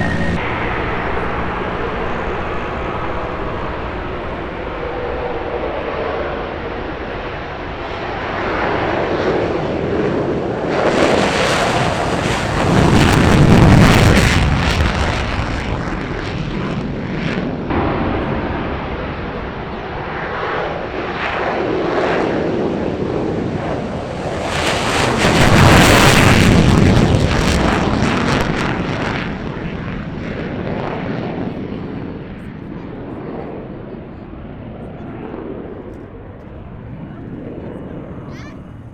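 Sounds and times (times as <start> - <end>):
fighter jet engines roaring: 0.0 - 38.9.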